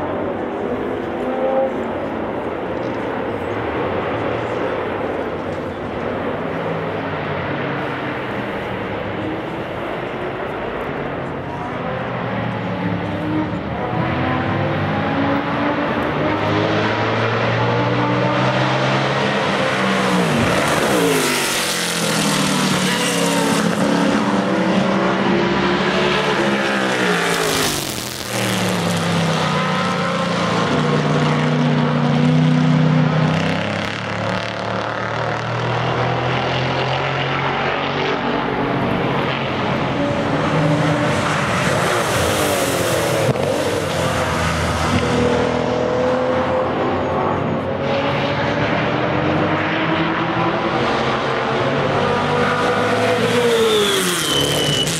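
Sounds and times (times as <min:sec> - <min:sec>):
racing car engines at high revs: 0:00.0 - 0:54.9
racing cars passing by: 0:00.0 - 0:54.9.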